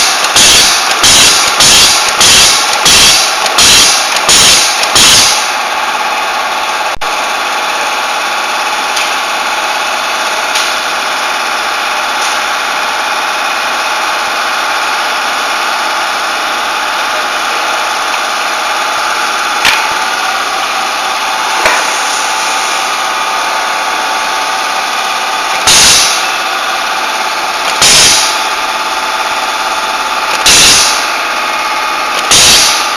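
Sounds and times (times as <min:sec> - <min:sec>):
machine running with mechanical hum: 0:00.0 - 0:32.9.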